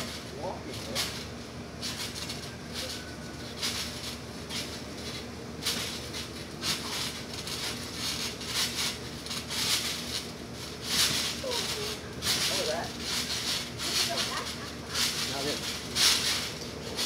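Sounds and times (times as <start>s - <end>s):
trampoline bouncing: 0.0s - 17.0s.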